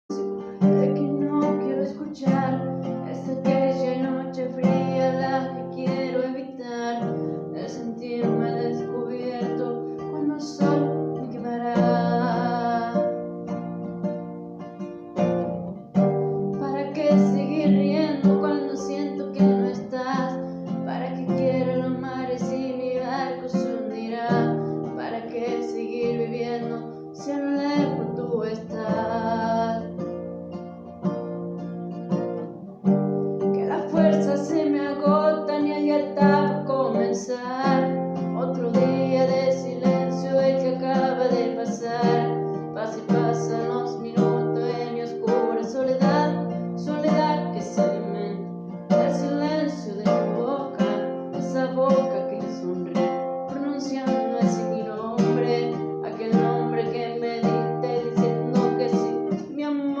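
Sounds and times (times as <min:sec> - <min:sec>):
person singing: 0:00.0 - 0:14.0, 0:15.0 - 0:30.3, 0:32.3 - 1:00.0
acoustic guitar: 0:00.0 - 1:00.0.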